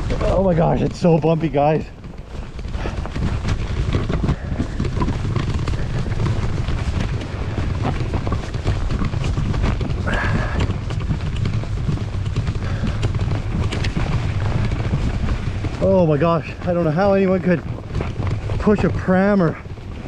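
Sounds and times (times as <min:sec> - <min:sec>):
bicycle rumbling over snow: 0:00.0 - 0:20.0
rattles and knocks: 0:00.0 - 0:20.0.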